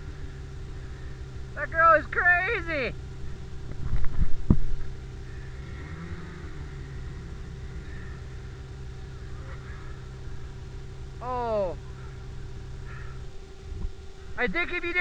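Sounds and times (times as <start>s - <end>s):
snowmobile engine idling: 0.0s - 15.0s.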